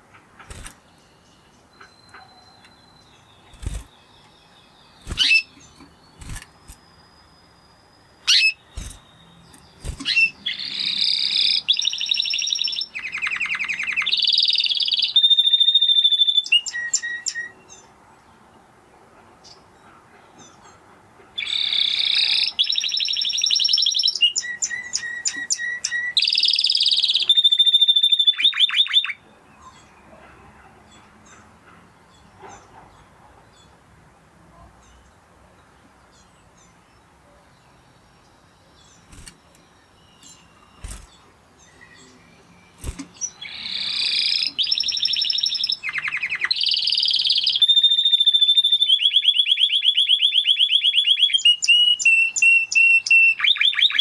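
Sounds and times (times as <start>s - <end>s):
canary singing trills: 0.4s - 17.9s, 21.4s - 30.3s, 36.2s - 54.0s.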